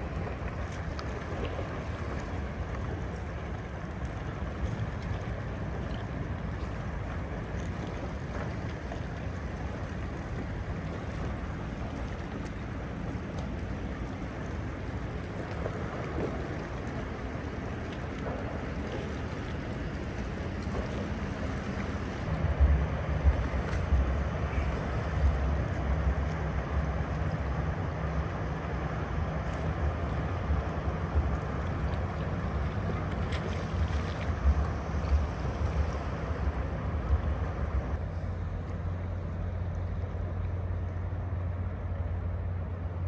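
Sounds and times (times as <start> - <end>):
large ship passing: 0.0 - 43.0.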